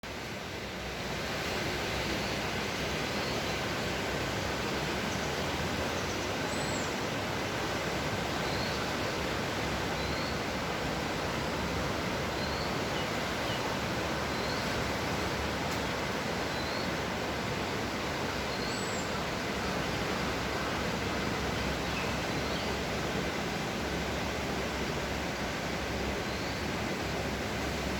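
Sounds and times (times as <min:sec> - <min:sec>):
flood stream rushing: 0:00.1 - 0:27.9.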